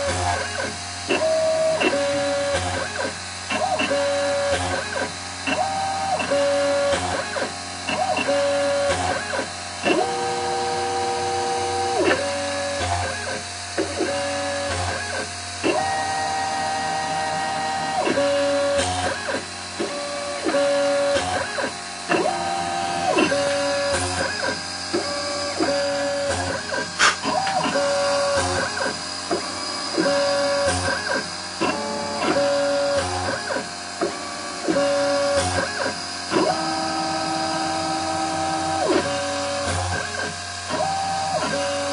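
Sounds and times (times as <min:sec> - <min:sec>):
stepper motors whining: 0:00.0 - 0:41.9.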